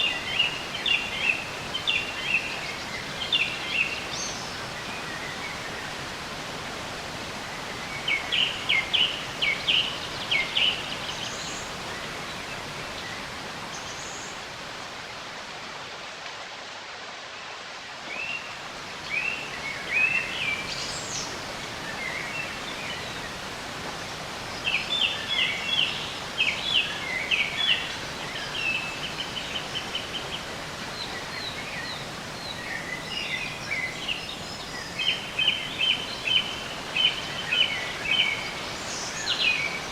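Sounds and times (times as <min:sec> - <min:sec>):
birds chirping: 0:00.0 - 0:15.9, 0:17.5 - 0:39.9.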